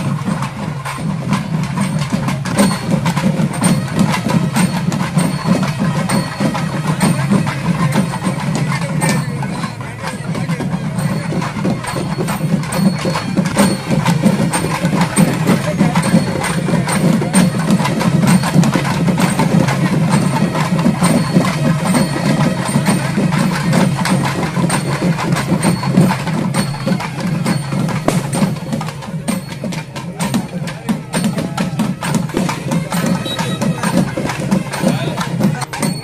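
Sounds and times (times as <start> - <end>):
drums beaten fast: 0.0 - 36.0.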